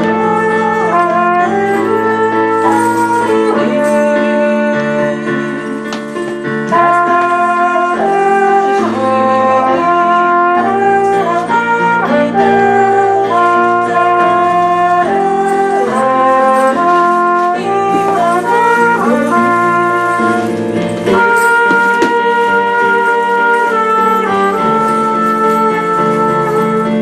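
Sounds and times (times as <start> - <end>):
brass music with held chords: 0.0 - 27.0.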